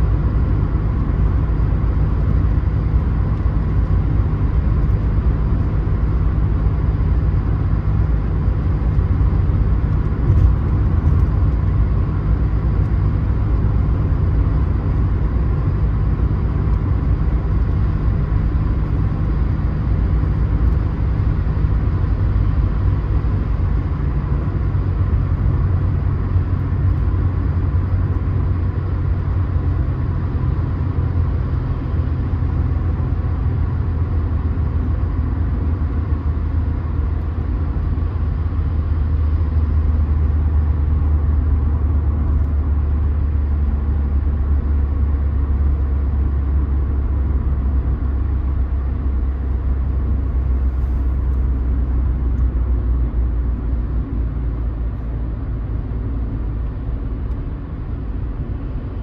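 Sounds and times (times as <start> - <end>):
car road noise at speed: 0.0 - 59.0.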